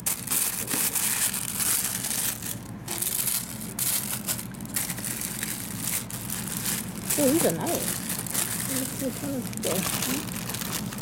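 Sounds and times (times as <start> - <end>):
tissue paper and plastic crinkling: 0.0 - 11.0.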